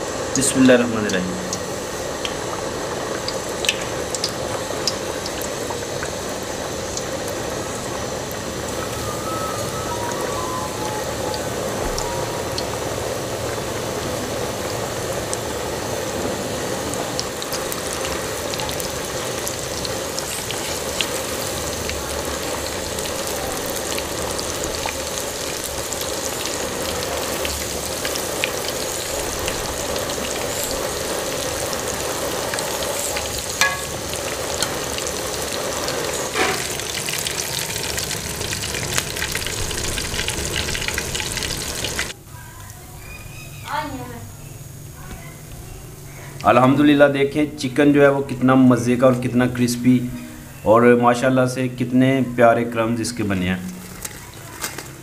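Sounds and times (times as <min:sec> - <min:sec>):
chicken deep-frying in oil: 0:00.0 - 0:55.0.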